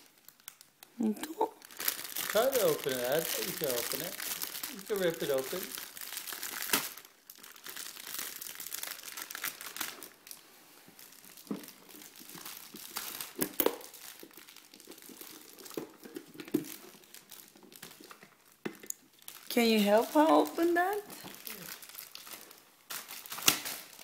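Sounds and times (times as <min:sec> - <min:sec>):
gift wrapping crinkling: 0:00.0 - 0:24.0.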